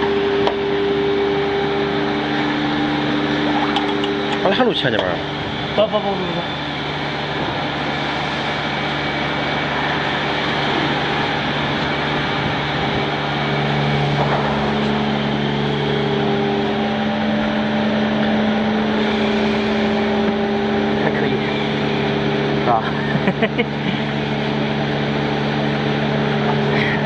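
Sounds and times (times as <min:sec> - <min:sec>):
thermoforming machine humming: 0:00.0 - 0:27.0.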